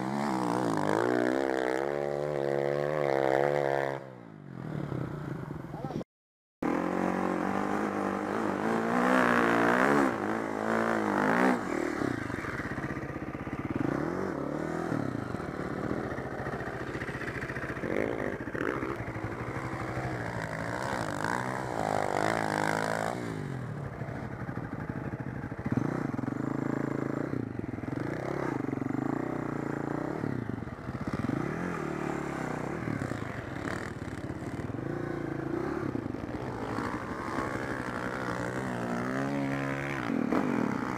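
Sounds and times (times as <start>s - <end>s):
dirt bike engine revving: 0.0s - 5.5s, 6.6s - 40.9s.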